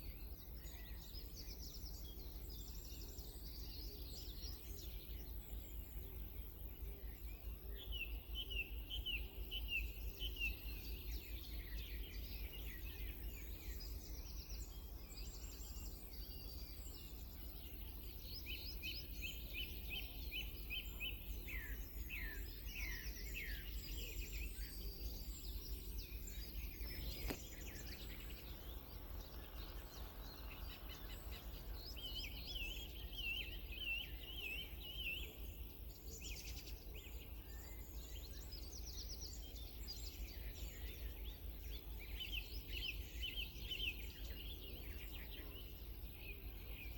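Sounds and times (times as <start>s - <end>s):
songbirds chirping and trilling: 0.0s - 46.9s.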